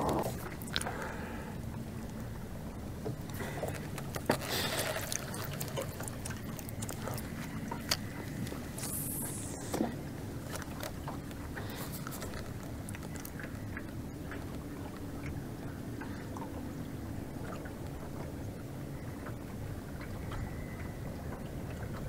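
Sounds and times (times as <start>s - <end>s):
steady low rumble: 0.0s - 22.0s
waves lapping against boat hull: 0.0s - 22.0s.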